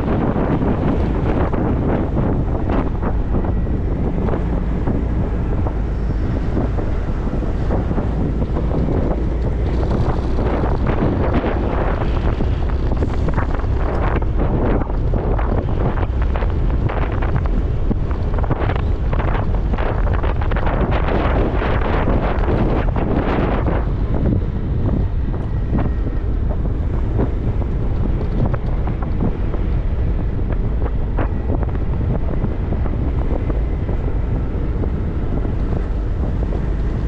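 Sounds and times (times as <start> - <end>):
motorcycle running: 0.0 - 37.0
road noise: 0.0 - 37.0
wind buffeting microphone: 0.0 - 37.0.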